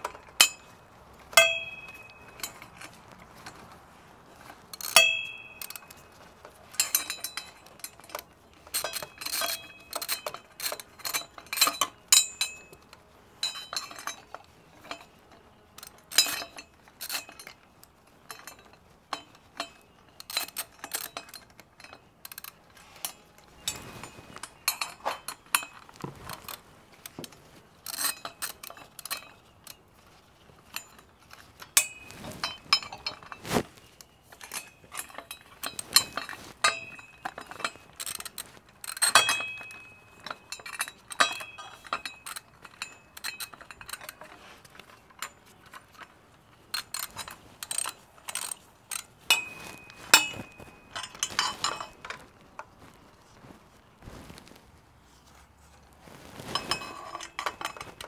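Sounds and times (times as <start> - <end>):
metal tools clinking: 0.0 - 53.4, 56.2 - 58.0.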